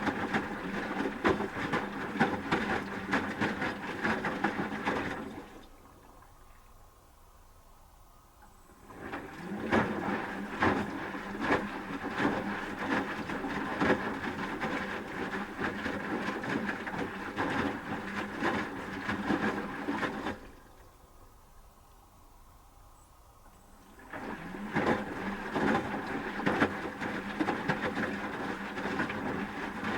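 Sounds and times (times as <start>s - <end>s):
washing machine motor hum: 0.0s - 6.0s, 8.7s - 20.7s, 23.8s - 29.9s
laundry sloshing and thudding in drum: 0.0s - 6.4s, 8.8s - 20.8s, 23.9s - 29.9s.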